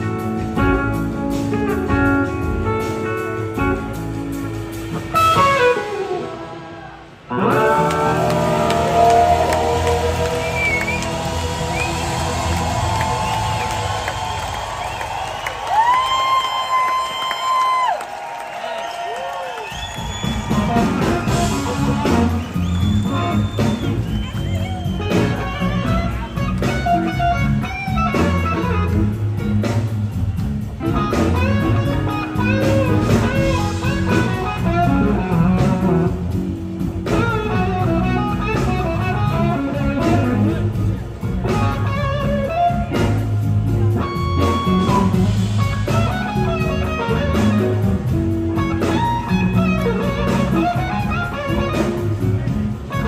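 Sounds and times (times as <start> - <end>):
electric guitars: 0.0 - 17.4, 19.6 - 53.0
drums: 0.0 - 53.0.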